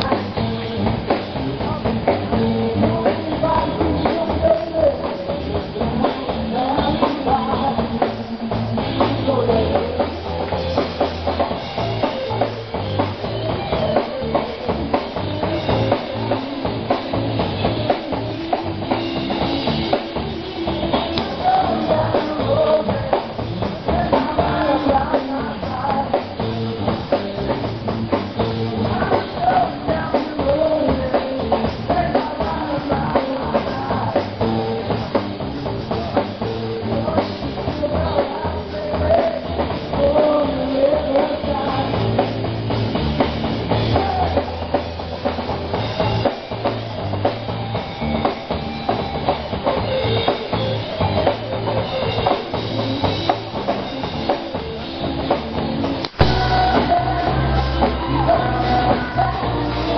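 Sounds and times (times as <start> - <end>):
drum kit beat: 0.0 - 59.9
rock music: 0.0 - 59.9.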